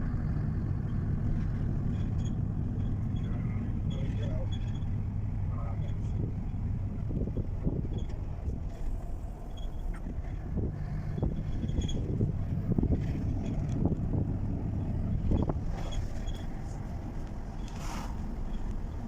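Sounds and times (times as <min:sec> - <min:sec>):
truck engine rumble: 0:00.0 - 0:19.0.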